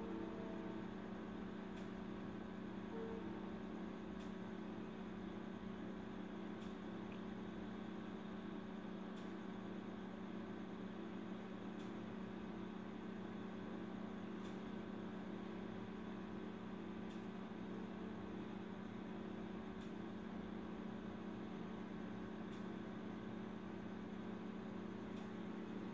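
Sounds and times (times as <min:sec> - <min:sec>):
electrical hum: 0:00.0 - 0:25.9.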